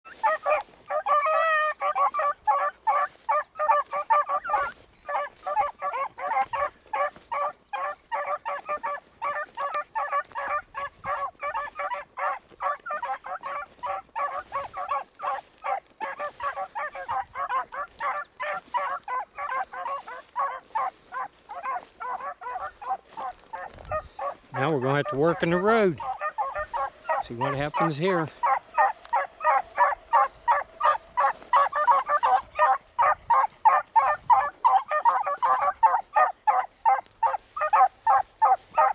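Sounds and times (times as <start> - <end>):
beagles baying: 0.0 - 38.9.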